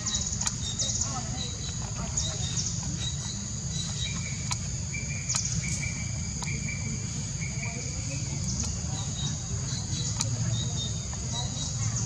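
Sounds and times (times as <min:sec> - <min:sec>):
constant low rumble: 0:00.0 - 0:12.0
insects chirring: 0:00.0 - 0:12.0.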